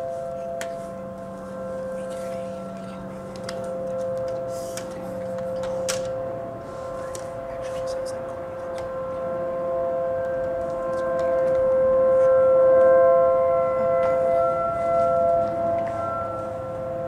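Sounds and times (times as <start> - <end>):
outdoor warning sirens: 0.0 - 17.0.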